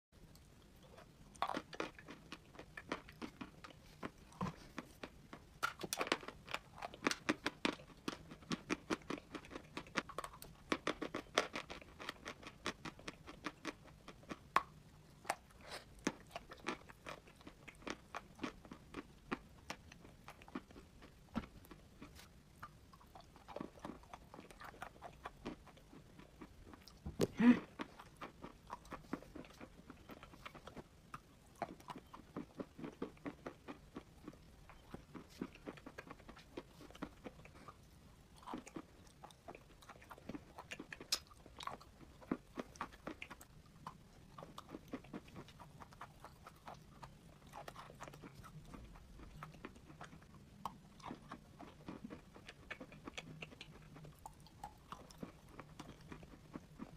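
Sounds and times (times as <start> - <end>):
person chewing chalk crunching: 0.8 - 56.9.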